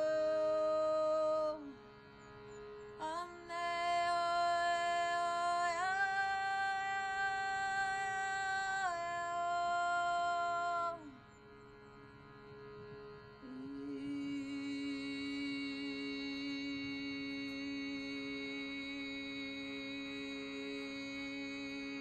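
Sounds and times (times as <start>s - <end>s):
shruti box drone: 0.0s - 22.0s.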